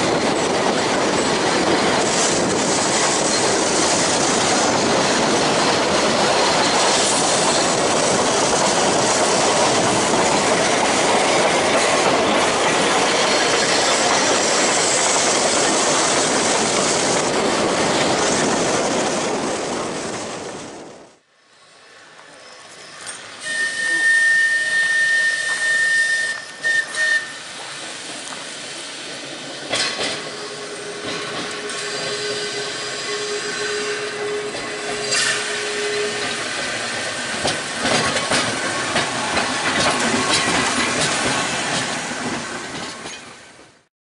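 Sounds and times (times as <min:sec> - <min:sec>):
tram wheel squeal: 0:00.0 - 0:17.2, 0:21.4 - 0:43.6
tram rumbling on rails: 0:00.0 - 0:43.9.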